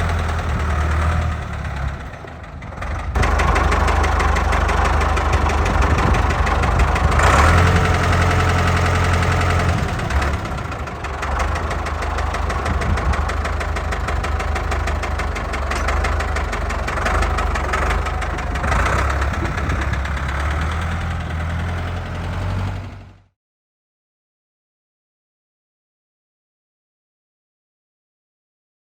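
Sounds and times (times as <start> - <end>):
tractor diesel engine idling: 0.0 - 23.3.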